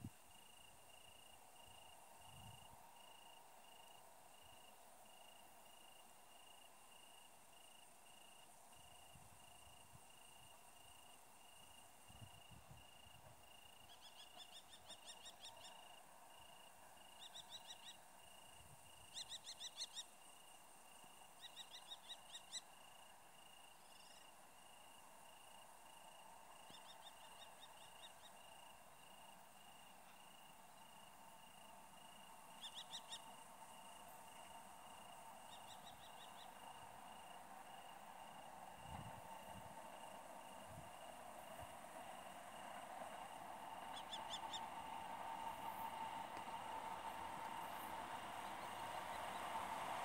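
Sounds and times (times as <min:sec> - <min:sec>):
insect chirping: 0:00.0 - 0:50.0.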